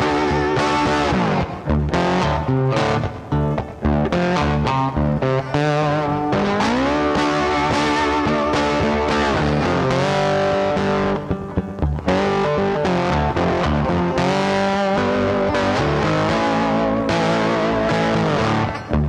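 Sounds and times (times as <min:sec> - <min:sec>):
guitar-led music with bass: 0:00.0 - 0:19.0.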